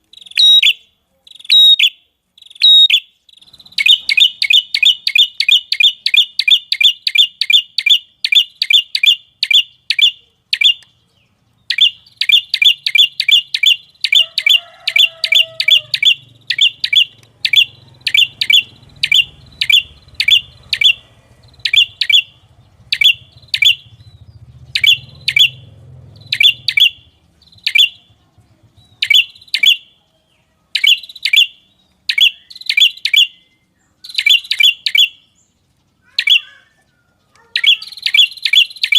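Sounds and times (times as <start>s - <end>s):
songbird chip notes: 0.0s - 38.9s.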